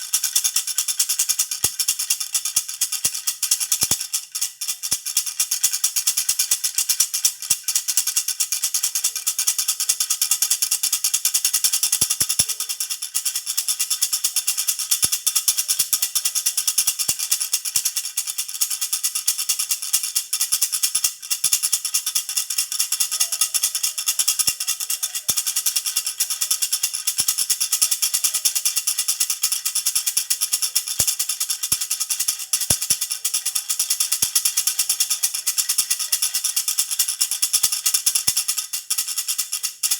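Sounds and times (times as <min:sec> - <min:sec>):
baby rattle shaken rapidly: 0:00.0 - 0:39.9.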